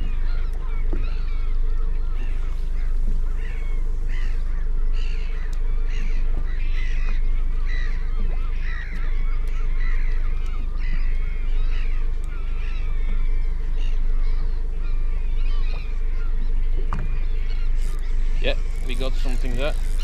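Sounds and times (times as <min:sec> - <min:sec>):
low hum: 0:00.0 - 0:20.0
seabirds calling harshly: 0:00.0 - 0:20.0.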